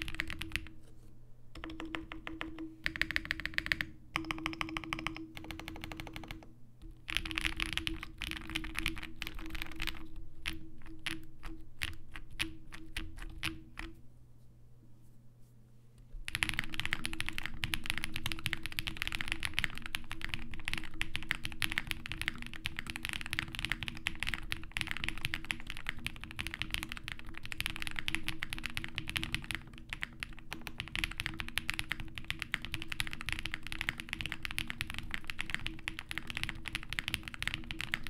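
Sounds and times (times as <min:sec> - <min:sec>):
mechanical keyboard typing: 0:00.0 - 0:00.7, 0:01.6 - 0:13.9, 0:16.2 - 0:38.0.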